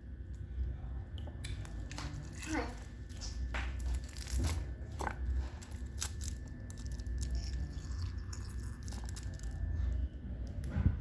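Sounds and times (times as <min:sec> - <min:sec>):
rustling and crinkling: 0:01.6 - 0:11.0.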